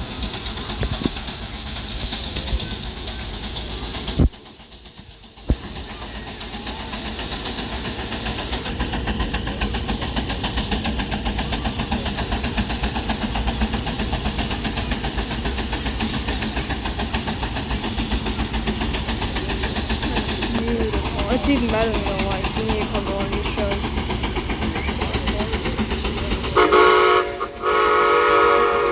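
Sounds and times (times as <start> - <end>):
steam engine exhaust chuffing: 0.0 - 28.9.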